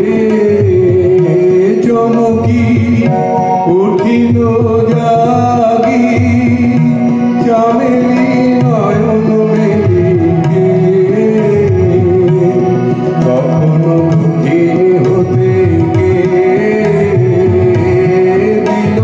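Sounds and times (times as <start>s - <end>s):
harmonium and keyboard music: 0.0s - 19.0s
tabla drum beat: 0.0s - 19.0s.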